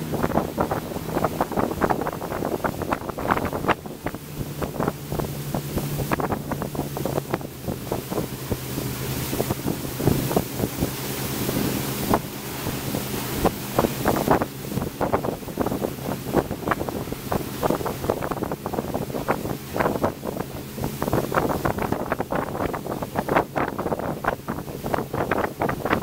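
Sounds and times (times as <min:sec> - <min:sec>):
motorboat engine humming: 0:00.0 - 0:26.0
water rushing from wake: 0:00.0 - 0:26.0
wind buffeting microphone: 0:00.0 - 0:26.0.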